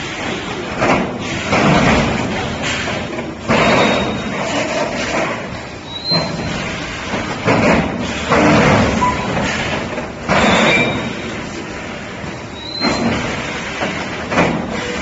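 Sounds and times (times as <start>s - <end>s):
machine clanking and thumping: 0.0s - 15.0s
steady machinery background: 0.0s - 15.0s.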